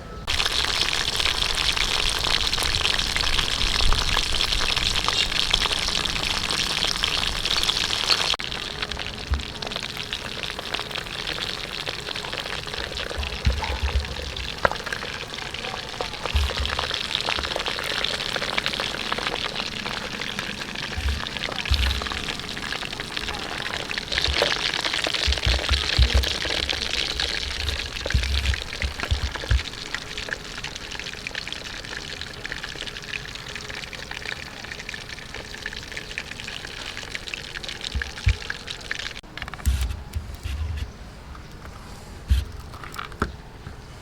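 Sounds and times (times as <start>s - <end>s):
chicken frying in hot oil: 0.2s - 40.6s.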